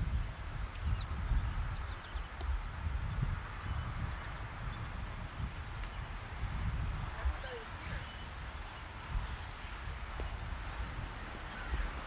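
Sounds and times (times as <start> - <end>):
insects chirping: 0.0 - 12.0
wind rumble on microphone: 0.0 - 12.0.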